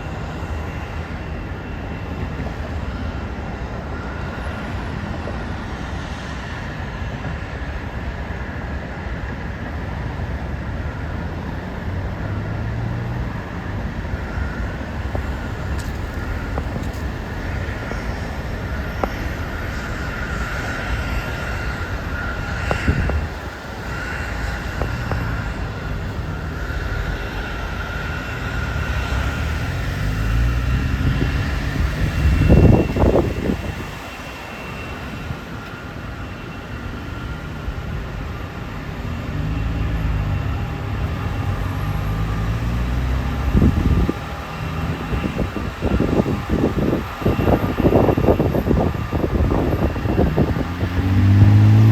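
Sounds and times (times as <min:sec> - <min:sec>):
jet airliner passing: 0:00.0 - 0:51.9
wind buffeting microphone: 0:09.2 - 0:51.9.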